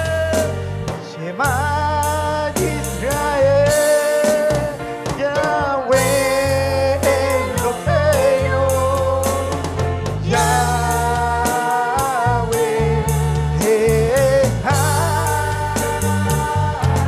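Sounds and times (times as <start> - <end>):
electric bass guitar: 0.0 - 17.0
electronic drum kit with cymbals: 0.0 - 17.0
man singing with vibrato: 0.0 - 17.0.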